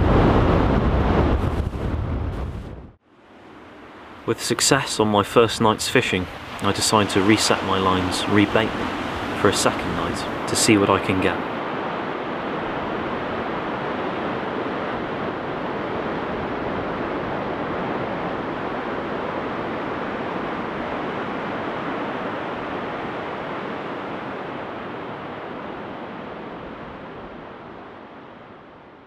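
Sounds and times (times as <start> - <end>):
sea surf rushing: 0.0 - 29.0.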